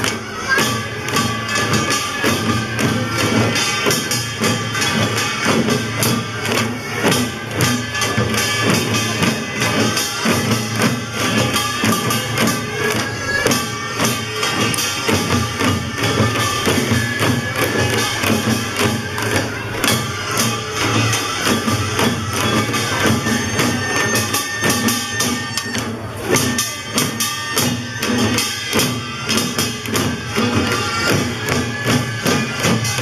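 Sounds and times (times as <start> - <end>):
barrel drums beaten fast: 0.0 - 33.0.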